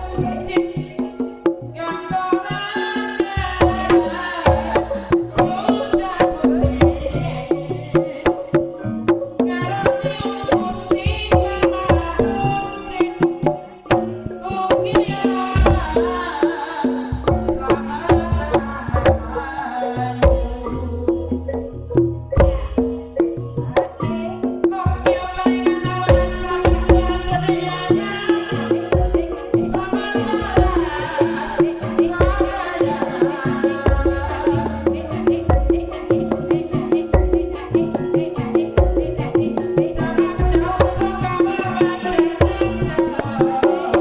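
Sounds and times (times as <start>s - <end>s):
woman singing: 0.0s - 21.6s, 23.6s - 44.0s
gamelan struck pitched notes: 0.0s - 44.0s
hand drum strokes: 2.2s - 44.0s.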